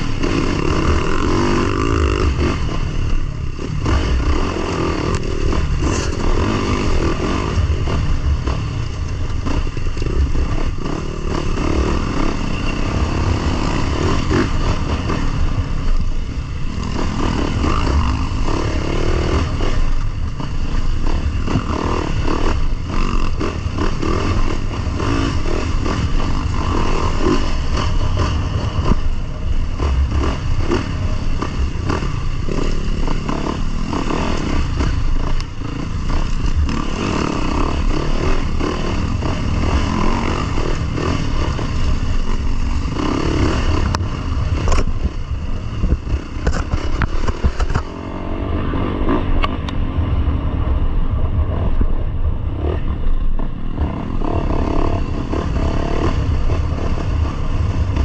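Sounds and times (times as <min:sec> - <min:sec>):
dirt bike engine revving: 0:00.0 - 0:50.7, 0:52.5 - 0:58.0.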